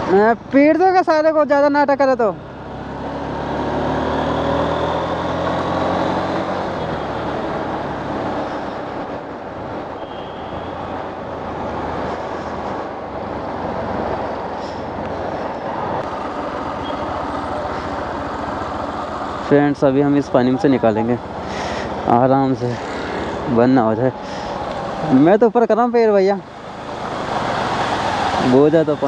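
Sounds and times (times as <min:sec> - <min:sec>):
wind and road rush: 0:00.0 - 0:29.0.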